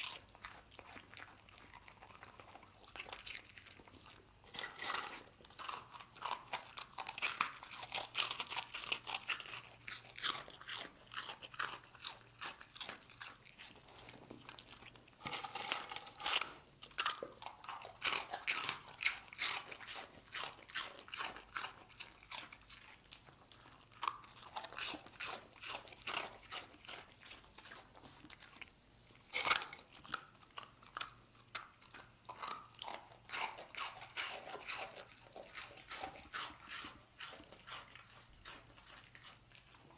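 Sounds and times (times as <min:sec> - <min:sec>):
dog crunching dry rusks: 0:00.0 - 0:39.9.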